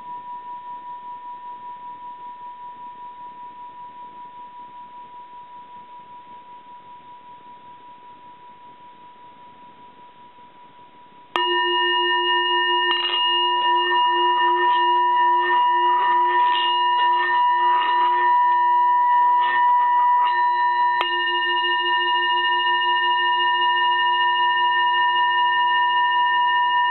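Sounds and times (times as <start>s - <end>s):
singing bowl ringing: 0.0s - 10.4s, 11.3s - 26.9s.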